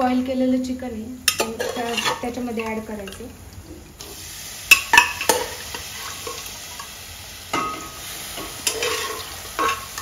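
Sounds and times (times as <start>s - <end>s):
food sizzling in a pot: 0.8s - 10.0s.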